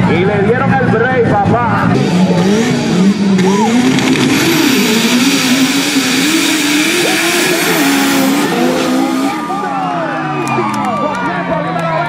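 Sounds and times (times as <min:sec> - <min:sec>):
engines revving hard: 0:00.0 - 0:11.1.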